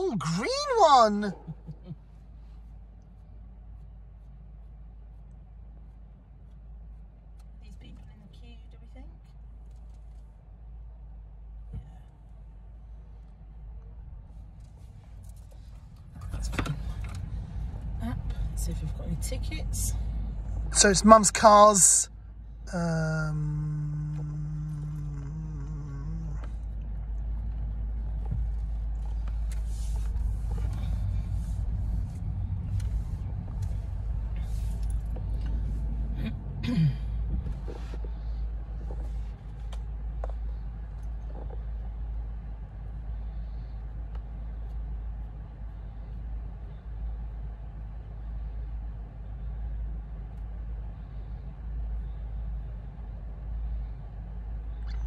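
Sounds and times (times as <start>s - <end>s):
car cabin low rumble: 0.0s - 55.0s.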